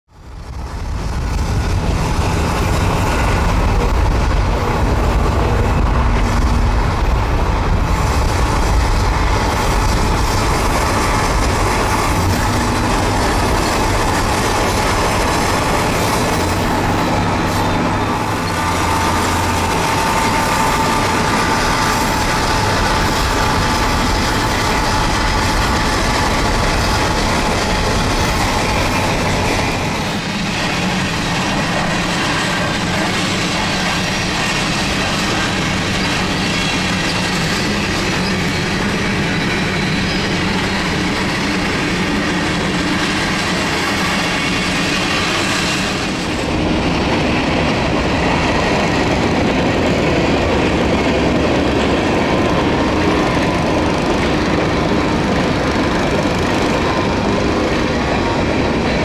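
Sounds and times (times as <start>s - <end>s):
train wheels rumbling on rails: 0.1s - 59.0s.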